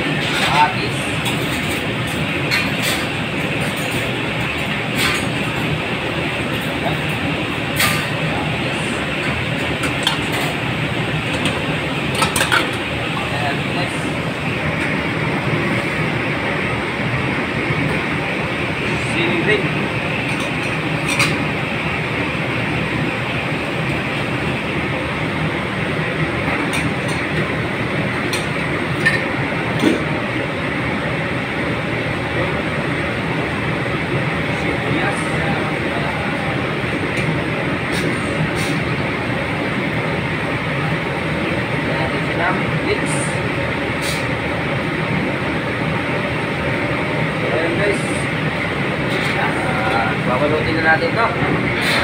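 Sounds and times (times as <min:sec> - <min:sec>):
kitchen ventilation rushing: 0:00.0 - 0:52.0.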